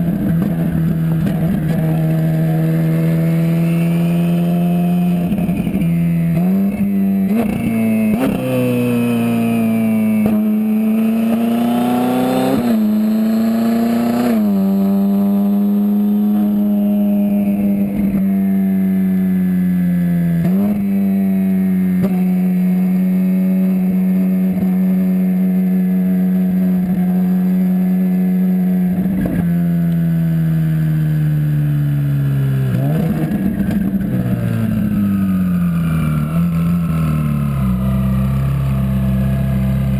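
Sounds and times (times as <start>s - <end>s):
car engine accelerating through gears: 0.0s - 18.2s, 19.2s - 39.9s.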